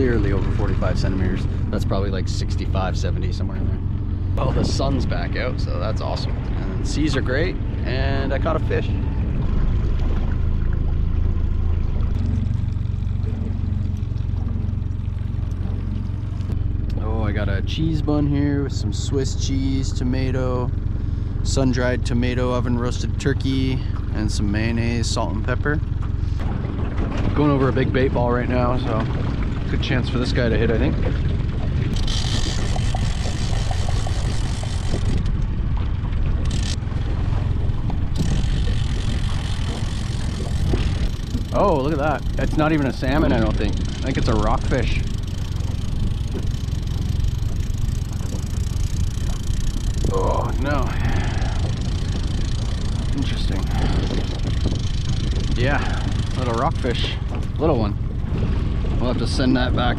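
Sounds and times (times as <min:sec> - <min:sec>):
outboard motor humming: 0:00.0 - 0:59.9
water washing along hull: 0:00.0 - 0:59.9.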